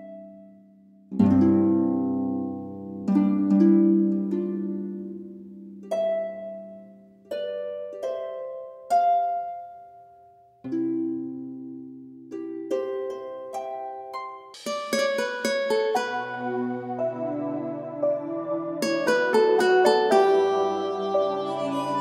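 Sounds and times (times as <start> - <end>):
slow plucked chords: 1.1 - 9.8, 10.7 - 22.0.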